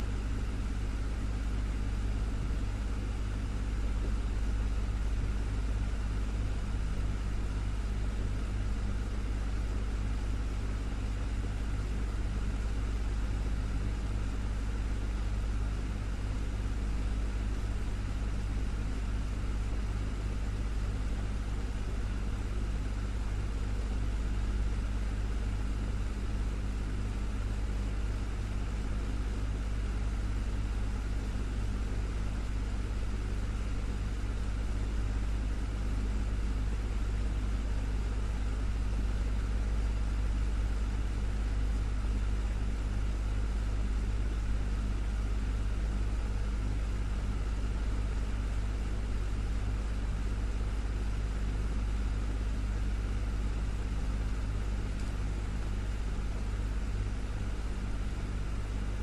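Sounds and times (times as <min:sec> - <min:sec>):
desktop fan humming: 0:00.0 - 0:59.0.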